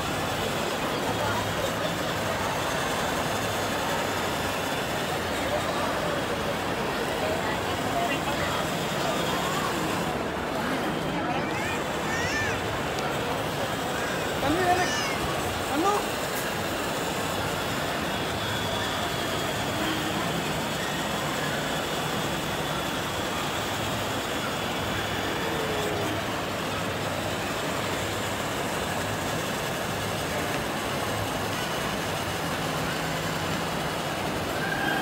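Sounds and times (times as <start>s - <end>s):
shopping mall hum and hiss: 0.0s - 35.0s.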